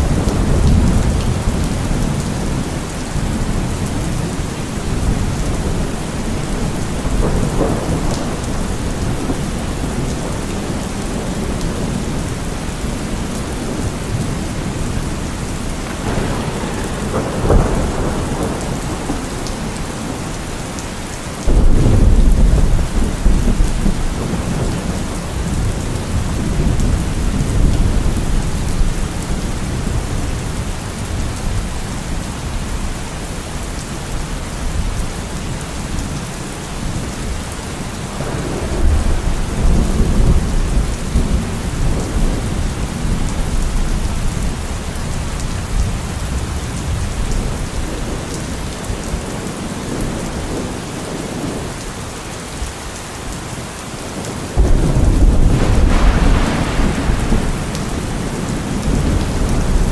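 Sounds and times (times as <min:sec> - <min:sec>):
thunder rumbling: 0:00.0 - 0:32.2, 0:38.2 - 0:51.7, 0:54.2 - 0:59.9
heavy rain: 0:00.0 - 0:59.9.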